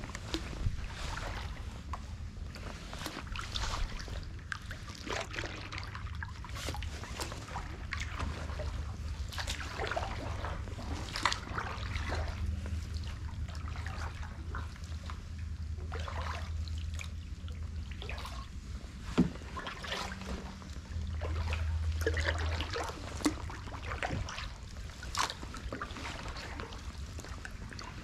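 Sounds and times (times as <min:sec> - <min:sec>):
paddle splashes: 0:00.0 - 0:28.0.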